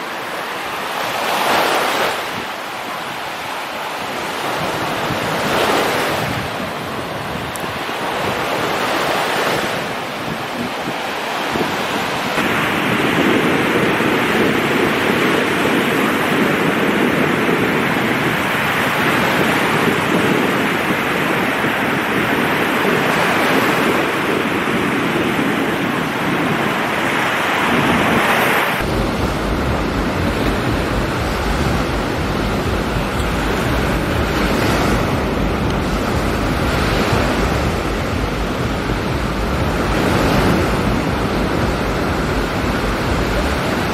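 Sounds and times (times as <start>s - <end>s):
low wind rumble: 0.0s - 43.9s
surf breaking on beach: 0.0s - 43.9s
wind on microphone: 0.0s - 43.9s.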